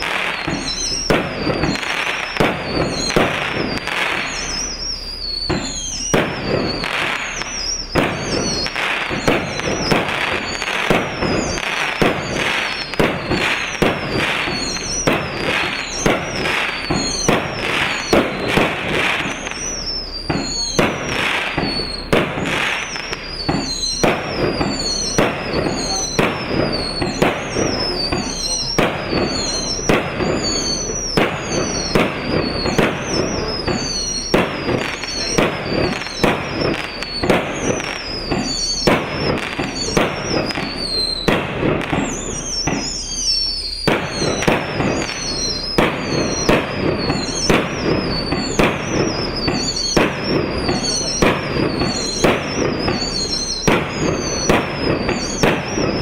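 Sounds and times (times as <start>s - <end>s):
firework battery shots: 0.0s - 56.0s
high falling whistle: 0.0s - 56.0s.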